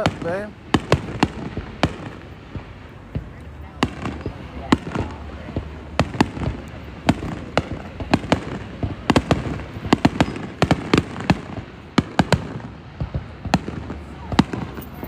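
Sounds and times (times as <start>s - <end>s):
background rumble: 0.0s - 15.0s
fireworks cracking and banging: 0.0s - 15.0s.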